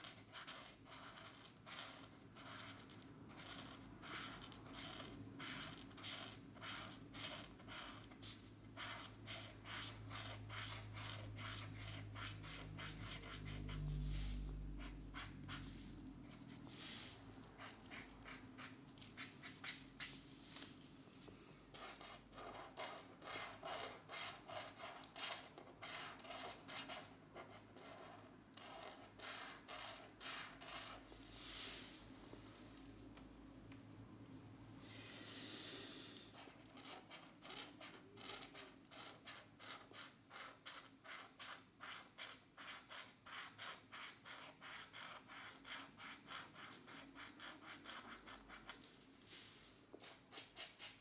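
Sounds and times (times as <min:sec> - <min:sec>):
markers scratching on paper: 0:00.0 - 0:20.8, 0:21.7 - 0:31.2, 0:36.4 - 0:48.9, 0:50.0 - 0:51.0.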